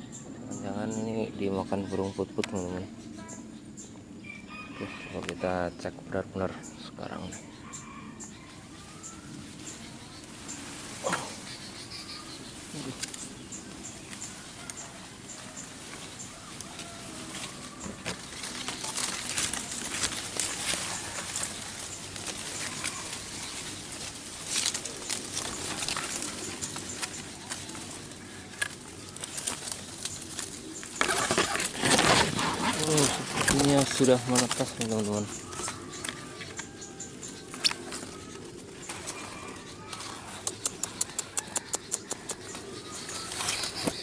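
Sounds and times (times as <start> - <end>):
birds calling: 0.0 - 44.0
leaves and twigs rustling: 4.2 - 44.0.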